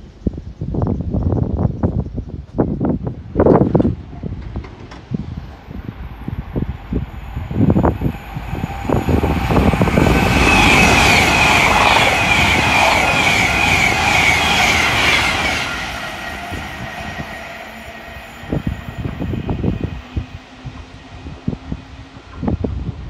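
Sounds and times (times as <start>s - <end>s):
electric train passing at speed: 2.8s - 23.0s.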